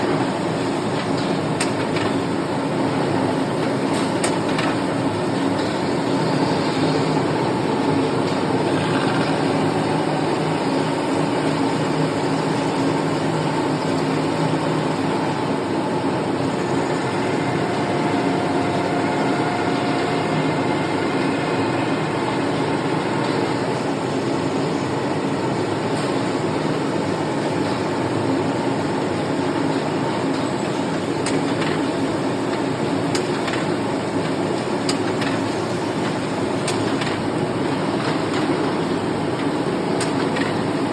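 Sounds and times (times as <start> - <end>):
lathe mechanical hum: 0.0 - 40.9.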